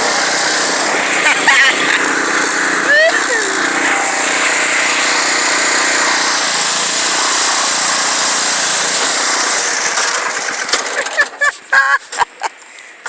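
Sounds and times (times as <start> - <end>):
lawn tractor engine running: 0.0 - 12.4.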